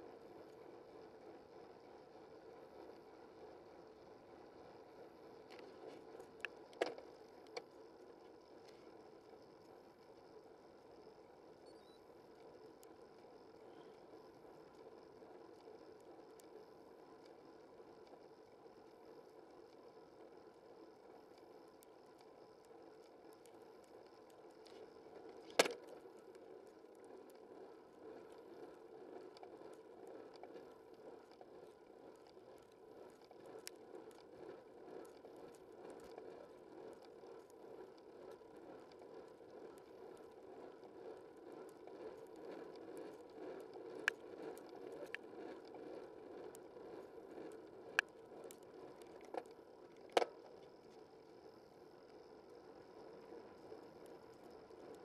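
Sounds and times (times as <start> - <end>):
bicycle tyres rolling on road: 0.0 - 55.0.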